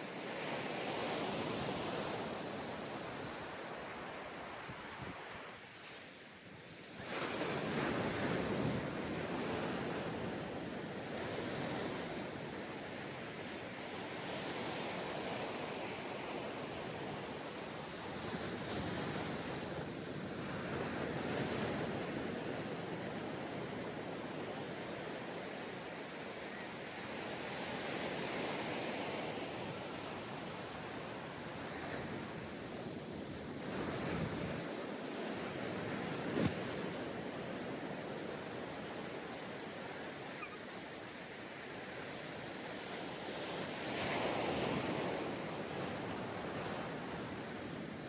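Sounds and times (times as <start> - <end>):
surf waves breaking on beach: 0.0 - 48.0.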